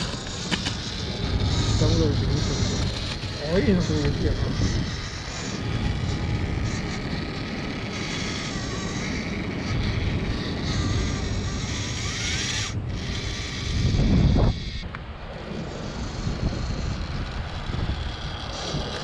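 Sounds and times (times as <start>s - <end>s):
small motor and gearbox whining: 0.0s - 19.0s
wind buffeting microphone: 0.0s - 19.0s.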